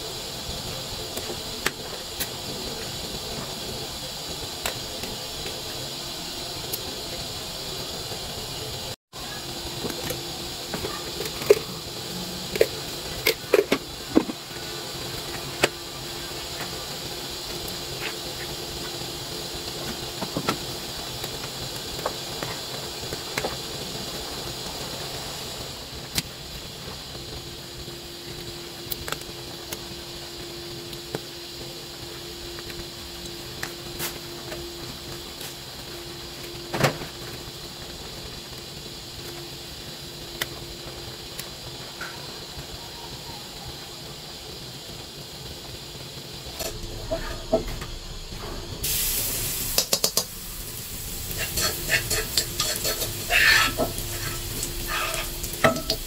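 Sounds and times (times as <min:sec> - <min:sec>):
soup boiling with hiss: 0:00.0 - 0:56.0.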